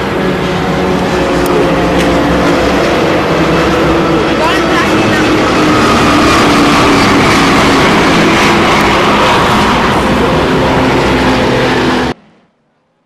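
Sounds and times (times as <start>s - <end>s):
truck engine running hard: 0.0s - 12.3s.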